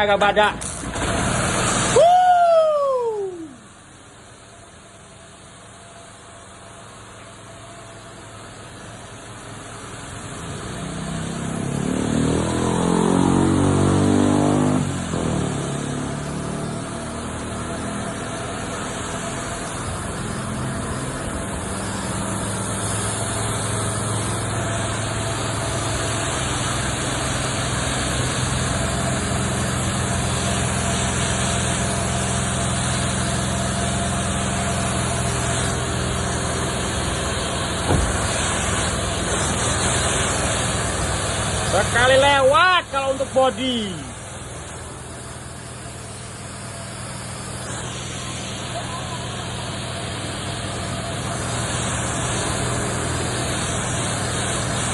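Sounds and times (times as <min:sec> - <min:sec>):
steam cleaner motor spinning up: 0:00.0 - 0:54.9
steam hiss: 0:00.0 - 0:54.9.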